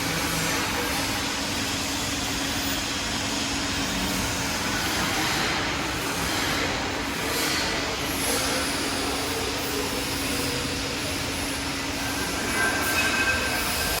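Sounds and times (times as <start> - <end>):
bending machine humming: 0.0 - 14.0
high-pitched whine: 0.0 - 14.0.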